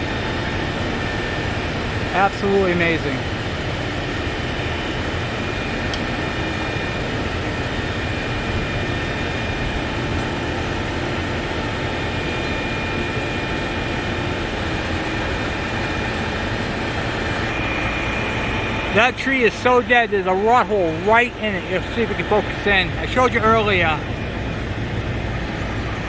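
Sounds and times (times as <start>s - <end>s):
crane engine droning: 0.0s - 26.0s
faint whines: 0.0s - 26.0s.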